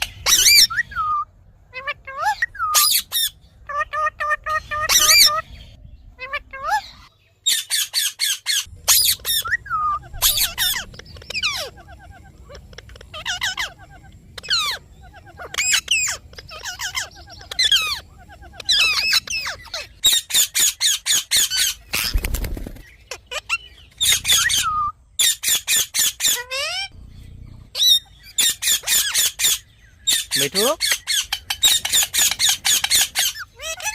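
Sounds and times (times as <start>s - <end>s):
parrot squawking: 0.0s - 22.2s, 23.1s - 33.9s.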